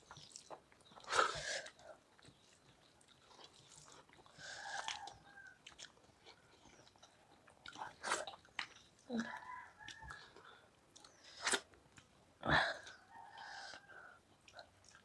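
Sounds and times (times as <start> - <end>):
chewing and lip smacking: 0.0 - 12.2, 12.8 - 15.0.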